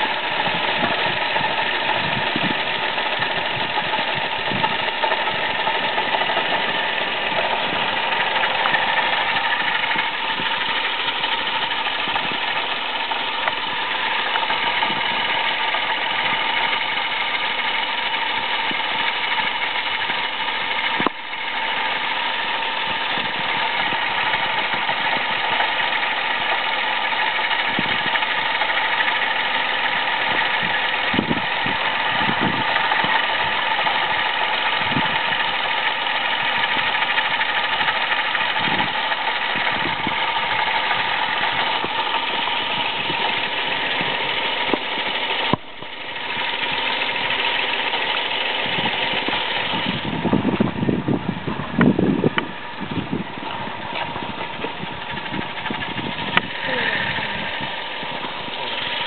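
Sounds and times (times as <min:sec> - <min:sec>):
car engine running: 0:00.0 - 0:59.0
worn water pump noise: 0:00.0 - 0:59.0.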